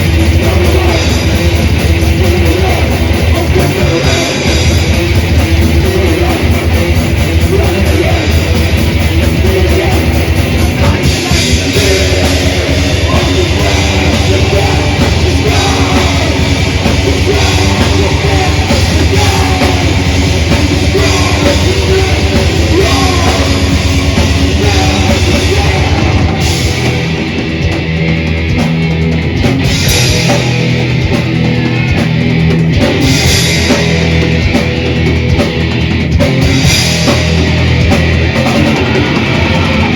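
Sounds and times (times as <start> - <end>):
metal band playing live: 0.0 - 39.9.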